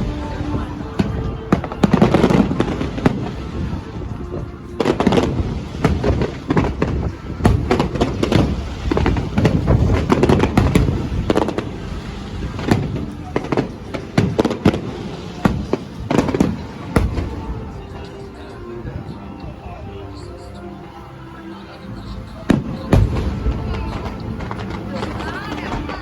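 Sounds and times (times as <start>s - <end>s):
fireworks bangs and crackles: 0.0s - 20.7s, 21.8s - 26.0s.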